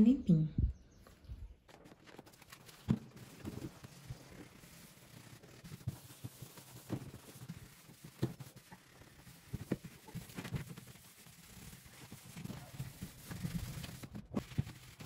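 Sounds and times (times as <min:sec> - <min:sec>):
cloth scrubbing plastic walls: 0:01.7 - 0:15.0.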